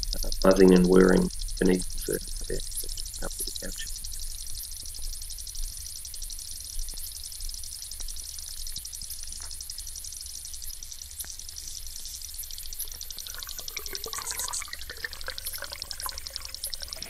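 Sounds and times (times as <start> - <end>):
faint clicks: 0.0 - 17.0
underwater buzzing and whirring: 0.0 - 17.0.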